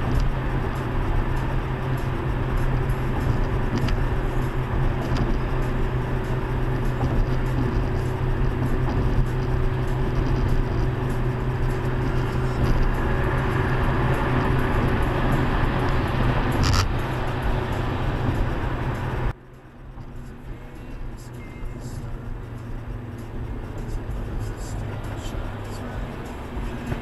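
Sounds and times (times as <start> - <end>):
car road and engine noise: 0.0 - 27.0.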